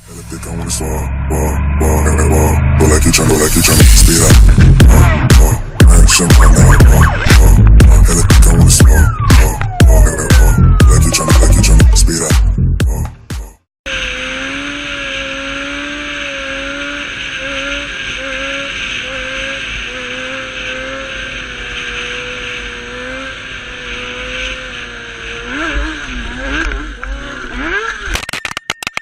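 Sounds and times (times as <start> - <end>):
wind and road noise: 0.0 - 13.2, 13.9 - 28.9
vehicle engine running: 0.0 - 28.2.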